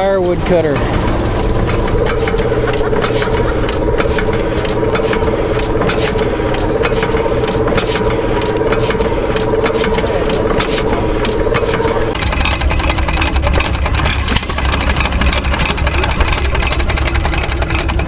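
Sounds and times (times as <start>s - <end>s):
stationary engine clattering: 0.0s - 18.0s
wavering drone: 0.0s - 18.0s.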